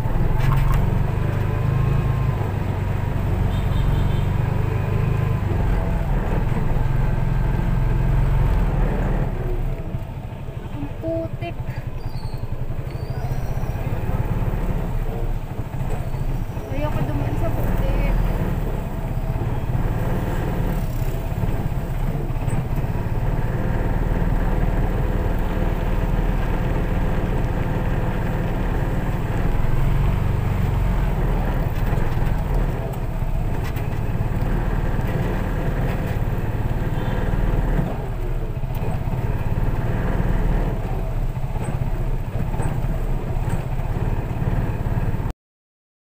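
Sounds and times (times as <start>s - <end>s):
car engine rumble: 0.0s - 45.3s
road noise: 0.0s - 45.3s.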